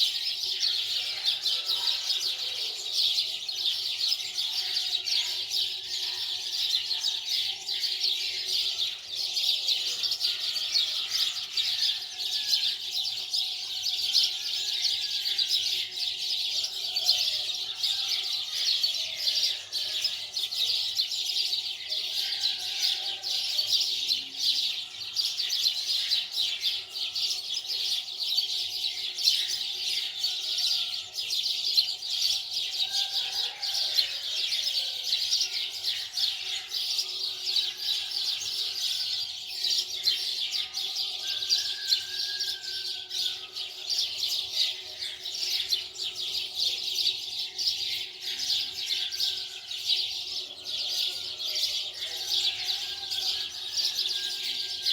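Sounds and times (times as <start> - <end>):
small birds chirping: 0.0 - 53.7.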